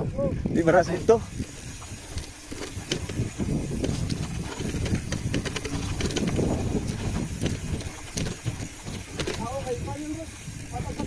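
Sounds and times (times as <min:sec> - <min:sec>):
bicycle tyre rumble: 0:00.0 - 0:11.0
wind buffeting microphone: 0:00.0 - 0:11.0.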